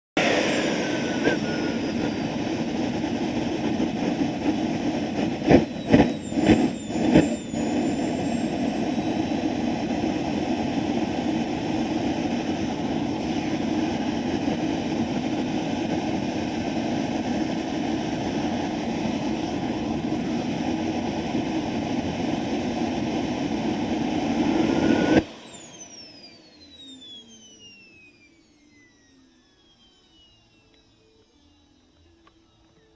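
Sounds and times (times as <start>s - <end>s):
turbine whine spinning down: 0.1s - 32.9s
turbojet engine idling: 0.2s - 32.9s.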